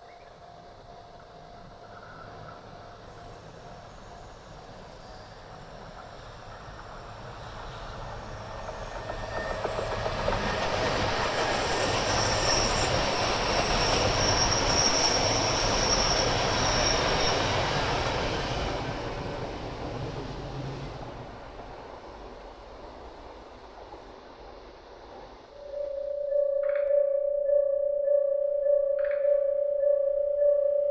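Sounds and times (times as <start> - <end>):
high-speed train passing: 0.0 - 27.4.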